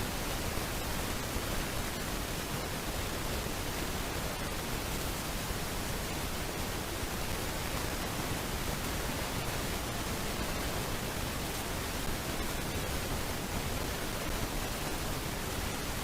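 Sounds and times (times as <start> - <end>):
steady even hiss: 0.0 - 16.0.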